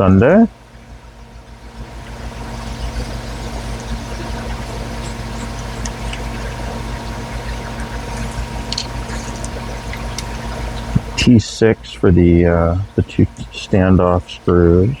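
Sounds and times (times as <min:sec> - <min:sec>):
mechanical motor hum: 0:00.0 - 0:15.0.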